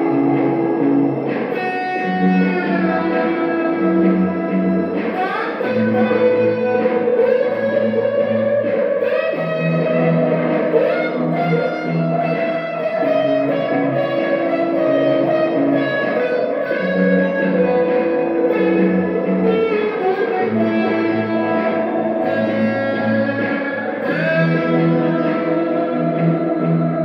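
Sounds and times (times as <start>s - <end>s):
ambient electric guitar: 0.0s - 27.0s.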